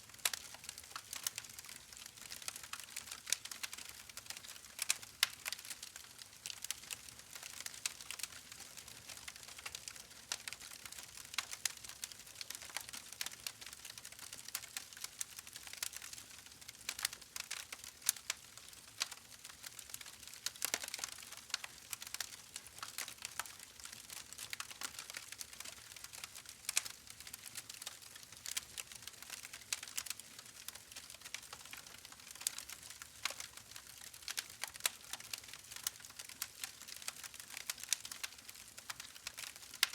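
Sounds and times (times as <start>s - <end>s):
soft crackling clicks and pops: 0.1s - 39.9s.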